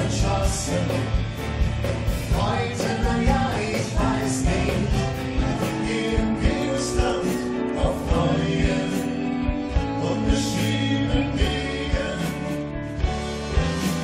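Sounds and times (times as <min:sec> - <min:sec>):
man and woman singing: 0:00.0 - 0:01.2, 0:02.3 - 0:12.7
live band playing: 0:00.0 - 0:14.0.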